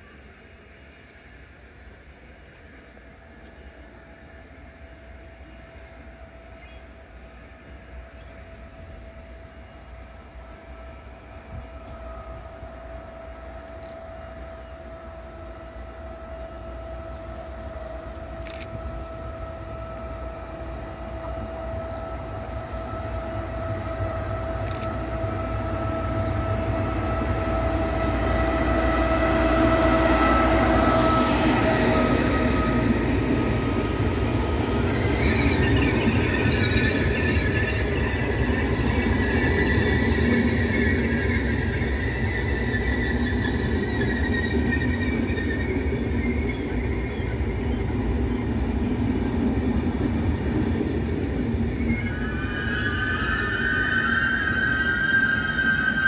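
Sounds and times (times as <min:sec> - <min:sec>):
train whine and rumble: 0:00.0 - 0:56.0
train wheel squeal: 0:05.1 - 0:56.0.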